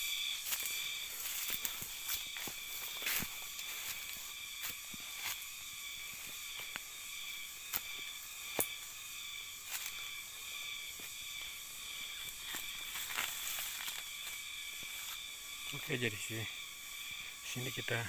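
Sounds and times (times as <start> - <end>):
footsteps on dry leaves: 0.0 - 18.0
insects droning: 0.0 - 18.0.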